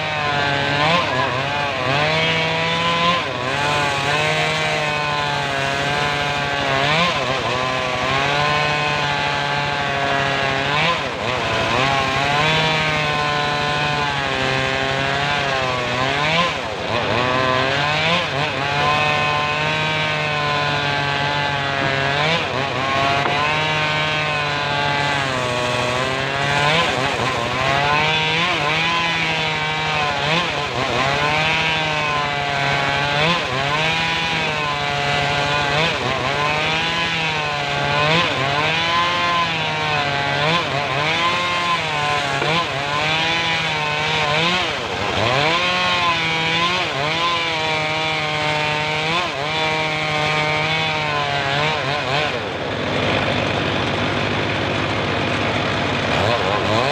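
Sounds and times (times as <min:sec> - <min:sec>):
saw engine running under load: 0:00.0 - 0:56.9.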